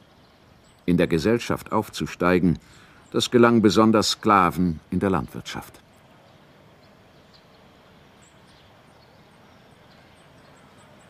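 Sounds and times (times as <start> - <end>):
small bird chirping: 0.0 - 1.9, 2.7 - 11.0
steady low hiss: 0.0 - 11.0.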